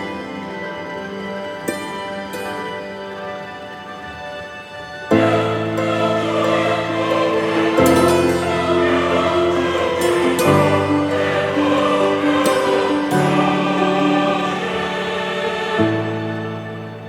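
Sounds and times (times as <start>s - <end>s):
slow choir-like vocal music: 0.0s - 17.0s.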